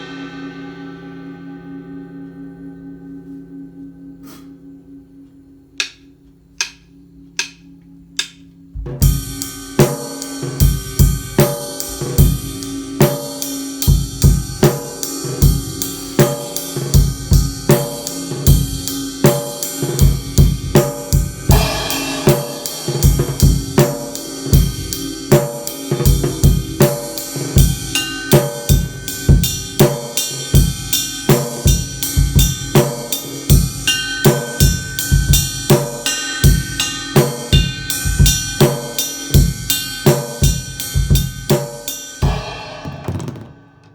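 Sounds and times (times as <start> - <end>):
cymbal wash ringing: 0.0 - 43.1
drum kit playing: 5.8 - 43.9.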